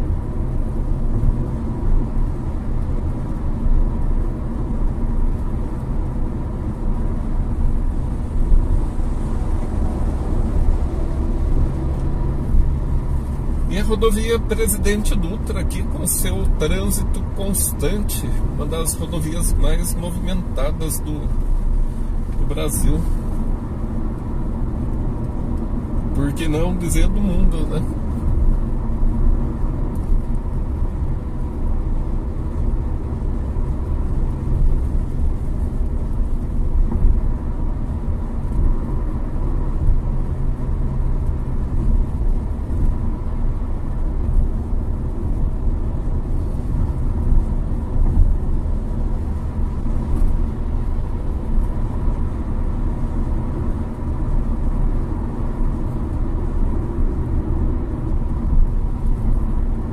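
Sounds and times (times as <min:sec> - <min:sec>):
car cabin road noise: 0:00.0 - 0:59.9.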